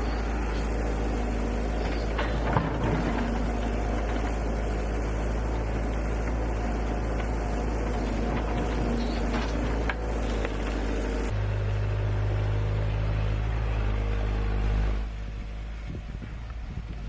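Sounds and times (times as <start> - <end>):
machine engine humming: 0.0 - 17.0.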